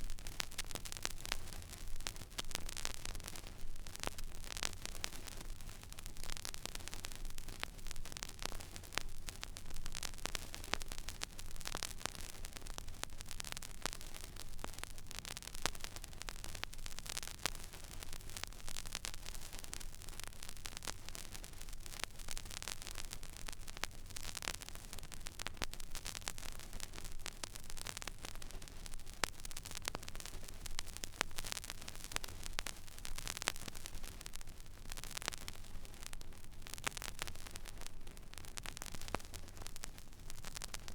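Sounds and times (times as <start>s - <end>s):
vinyl surface hiss and crackles: 0.0s - 40.9s.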